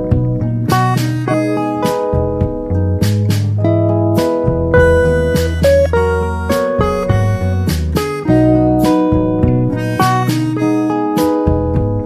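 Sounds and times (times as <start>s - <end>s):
guitar strumming: 0.0s - 12.0s.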